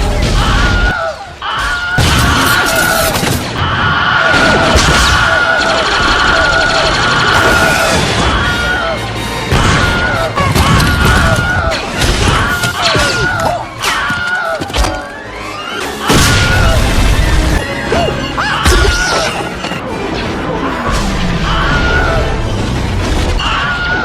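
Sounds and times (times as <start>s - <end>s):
crashes and explosions: 0.0s - 24.0s
orchestral music: 2.1s - 23.7s.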